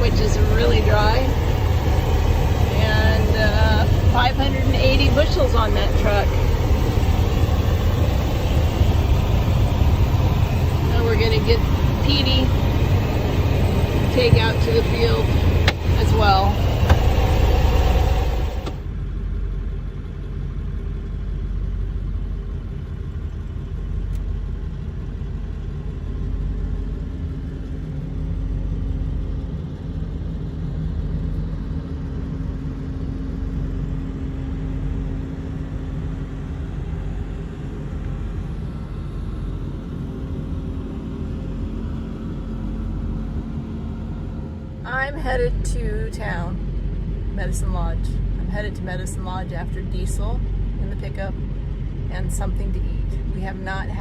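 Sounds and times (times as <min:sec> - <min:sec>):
faint steady hum: 0:00.0 - 0:54.0
vehicle engine and road rumble: 0:00.0 - 0:54.0.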